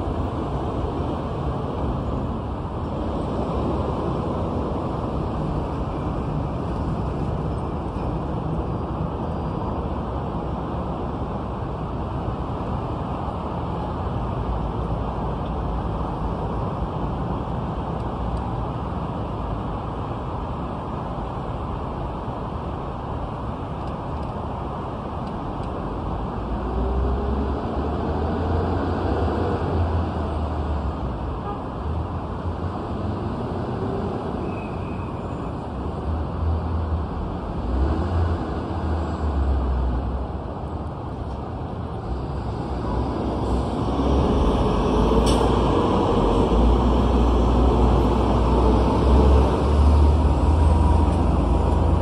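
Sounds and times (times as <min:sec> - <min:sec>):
low rumble of heavy vehicles: 0:00.0 - 0:52.0
steady hum of cars: 0:00.0 - 0:52.0.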